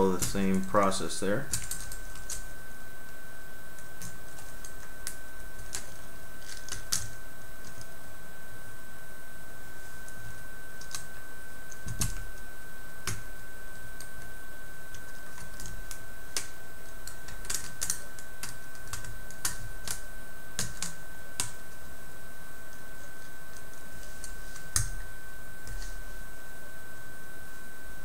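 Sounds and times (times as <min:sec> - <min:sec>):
steady high tone hum: 0:00.0 - 0:28.0.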